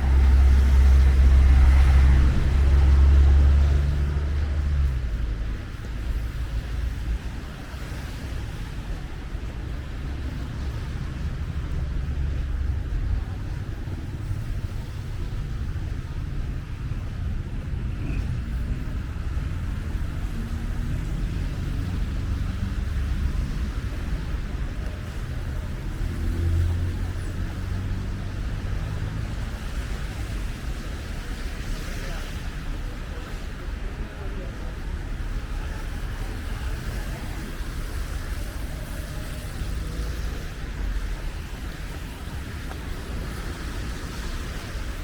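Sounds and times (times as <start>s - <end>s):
city street traffic rumble: 0.0s - 45.0s
tyres hissing on wet asphalt: 0.0s - 45.0s
vehicle engine hum: 0.0s - 45.0s.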